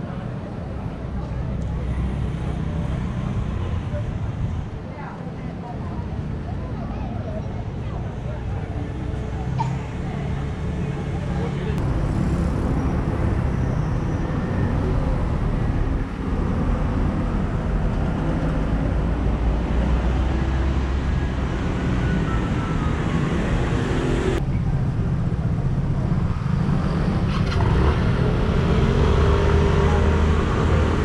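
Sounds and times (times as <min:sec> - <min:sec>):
car engines passing: 0:00.0 - 0:31.0
motor scooter engines passing: 0:00.0 - 0:31.0.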